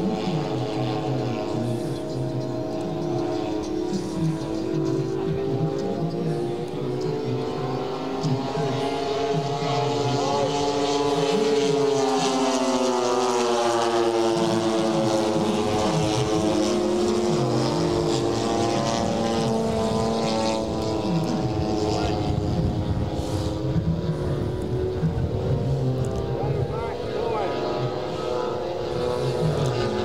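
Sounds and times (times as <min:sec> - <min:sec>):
model plane propeller engines droning: 0:00.0 - 0:30.0.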